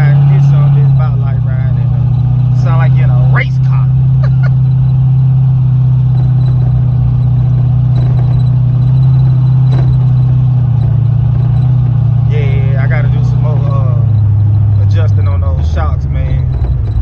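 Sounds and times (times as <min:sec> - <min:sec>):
car engine drone from inside: 0:00.0 - 0:17.0.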